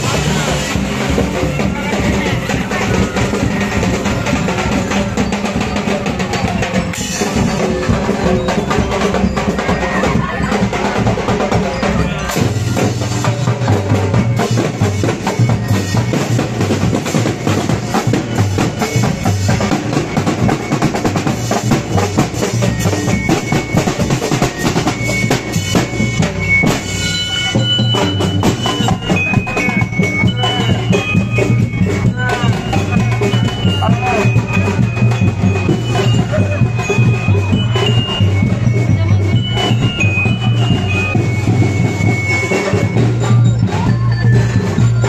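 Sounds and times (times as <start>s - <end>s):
bass drums beating: 0.0s - 45.0s
snare drums: 0.0s - 45.0s.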